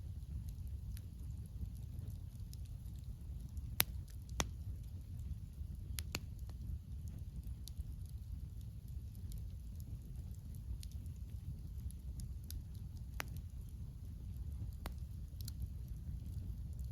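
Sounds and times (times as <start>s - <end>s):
campfire crackling: 0.0s - 16.9s
low rumble of flame: 0.0s - 16.9s
soft wind: 0.0s - 16.9s.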